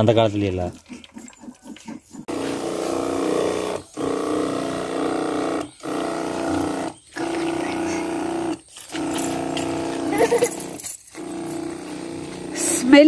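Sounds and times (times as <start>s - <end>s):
sprayer pump humming: 2.2s - 13.0s.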